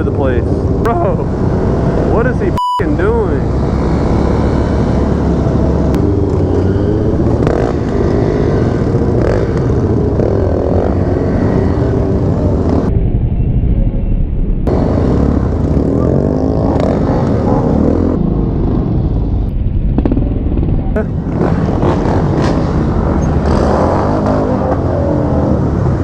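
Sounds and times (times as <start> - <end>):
motorcycle engine revving: 0.0 - 2.5, 3.1 - 12.9, 14.7 - 26.0
wind noise: 3.5 - 26.0.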